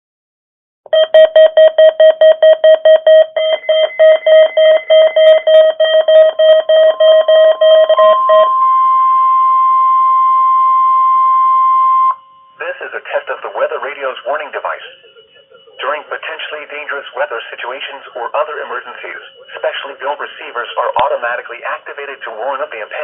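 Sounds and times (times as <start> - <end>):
steady warning alarm tone: 0.9 - 23.0
weather radio alert beeping: 1.0 - 23.0.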